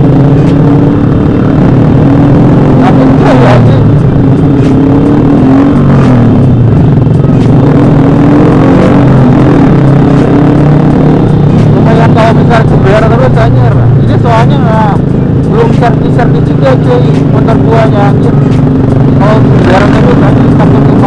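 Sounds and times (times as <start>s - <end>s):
motorcycle engine and exhaust: 0.0s - 21.0s.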